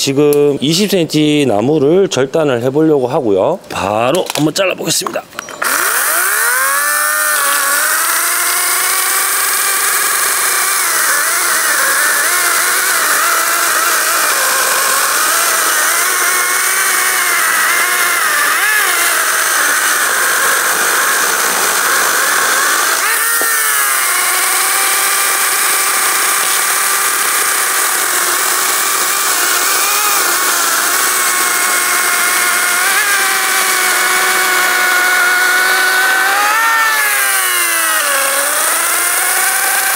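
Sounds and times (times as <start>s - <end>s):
electric chainsaw cutting log: 5.0s - 39.9s.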